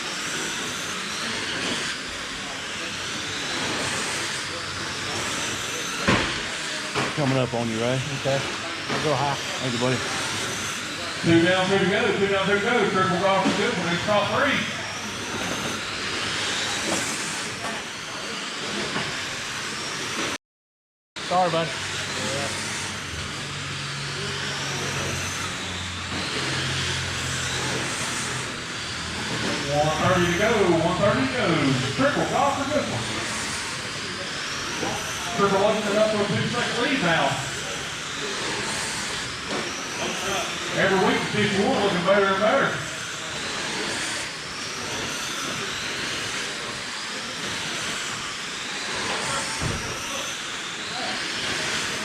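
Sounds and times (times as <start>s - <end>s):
high motor whines: 0.0s - 20.4s, 21.2s - 52.0s
rc cars hissing on dirt: 0.0s - 20.4s, 21.2s - 52.0s.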